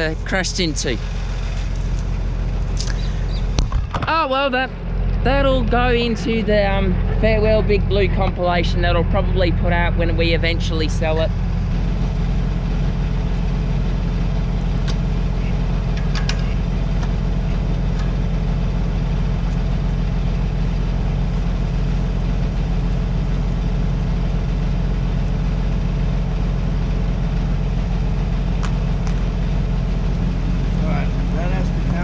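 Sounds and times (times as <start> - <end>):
heavy engine droning: 0.0 - 32.0.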